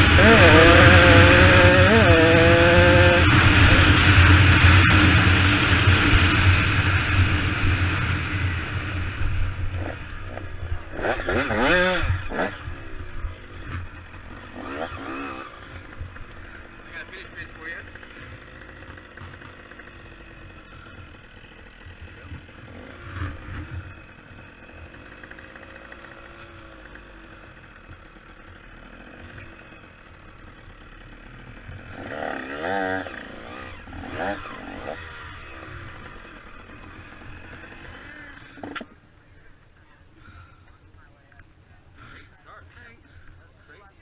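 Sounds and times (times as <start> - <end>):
two-stroke dirt bike idling: 0.0 - 44.0.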